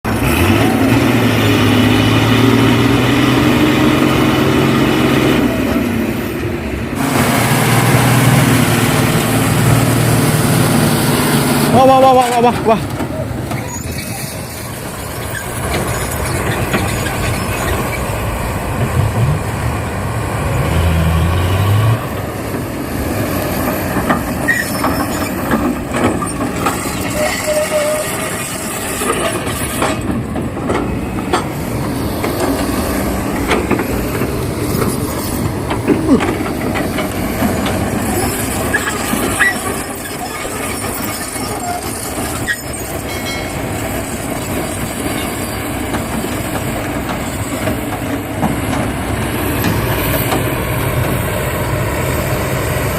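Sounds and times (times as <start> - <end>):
diesel machinery running: 0.0 - 52.9.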